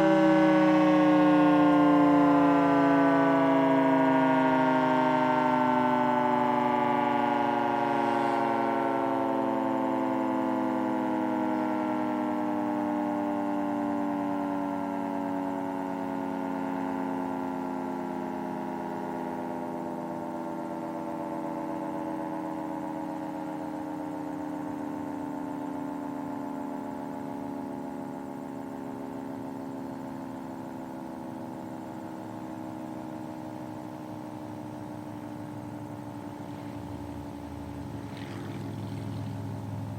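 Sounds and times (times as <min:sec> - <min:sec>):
dual-tone siren winding down: 0:00.0 - 0:39.9.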